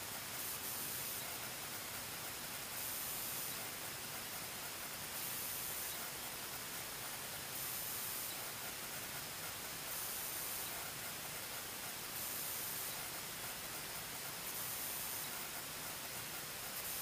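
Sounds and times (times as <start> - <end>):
camera microphone hiss: 0.0 - 17.0
faint high hiss: 0.0 - 17.0.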